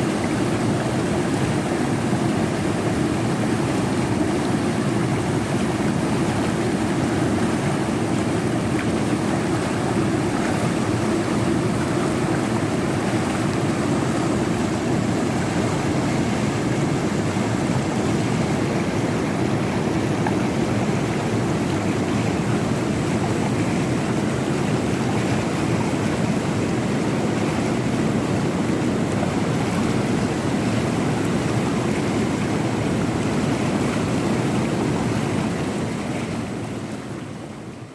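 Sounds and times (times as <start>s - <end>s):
river water rushing: 0.0s - 37.9s.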